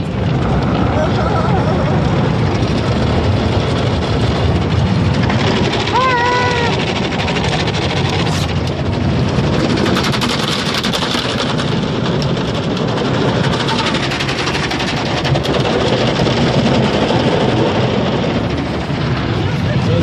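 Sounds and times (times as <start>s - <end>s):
car wash water rushing: 0.0s - 20.0s
fast stream of hits: 2.6s - 19.3s.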